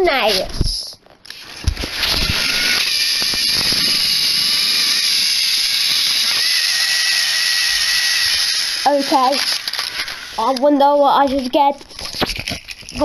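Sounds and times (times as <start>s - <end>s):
toy train motors whirring: 1.2s - 13.0s.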